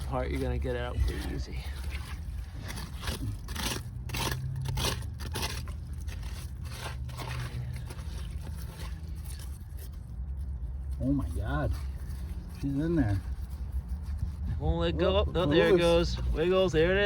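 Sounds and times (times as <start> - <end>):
digging in dirt: 0.0 - 17.0.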